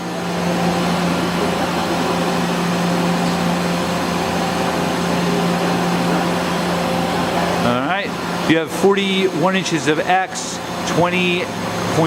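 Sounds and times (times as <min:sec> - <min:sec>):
machining center humming: 0:00.0 - 0:12.0.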